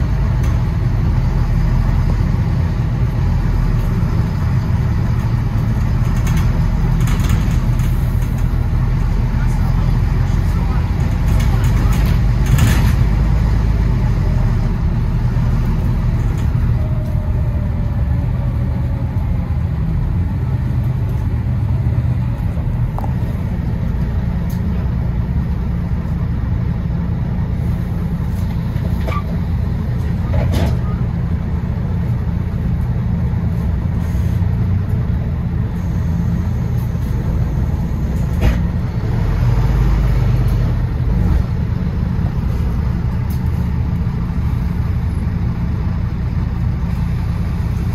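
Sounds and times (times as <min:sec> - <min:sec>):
bus engine and road noise: 0:00.0 - 0:47.9.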